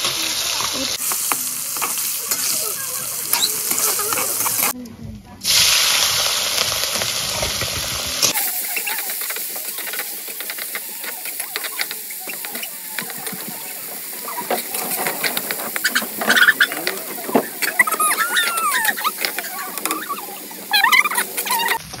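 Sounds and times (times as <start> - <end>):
prawns frying in hot oil: 0.0 - 4.8, 5.4 - 22.0.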